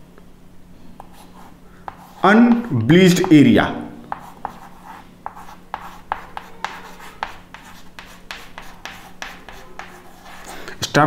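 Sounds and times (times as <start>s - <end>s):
chalk tapping and scraping on board: 1.0s - 3.4s, 4.1s - 10.6s.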